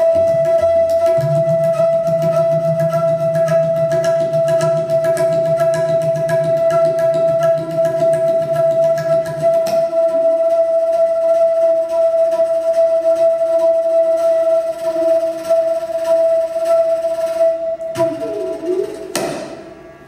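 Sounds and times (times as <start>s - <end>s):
bansuri long note: 0.0s - 20.0s
tabla strokes: 0.0s - 20.0s.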